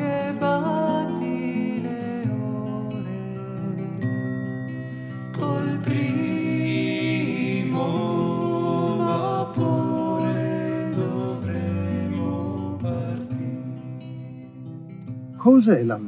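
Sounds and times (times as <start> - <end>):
person singing slow song: 0.0 - 14.4.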